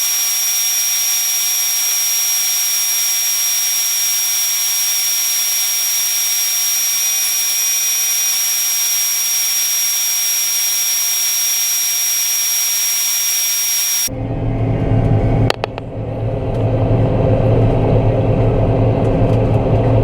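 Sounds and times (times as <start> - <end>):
combine harvester whine: 0.0 - 19.1.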